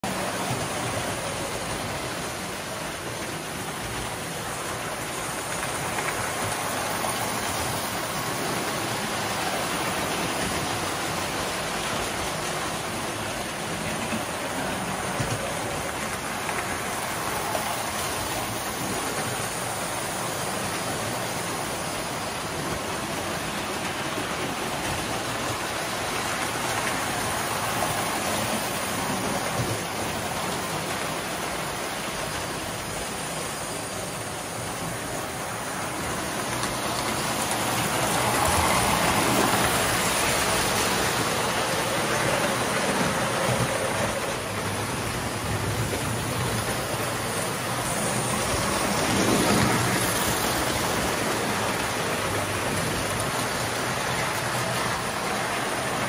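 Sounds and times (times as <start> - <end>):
toy trains whirring on metal track: 0.0 - 56.0.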